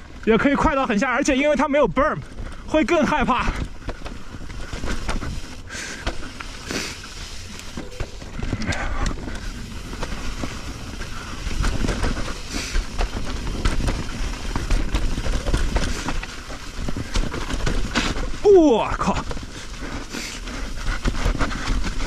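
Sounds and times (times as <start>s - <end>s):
bike rattling over bumps: 0.0s - 22.0s
tyres rumbling on dirt: 0.0s - 22.0s.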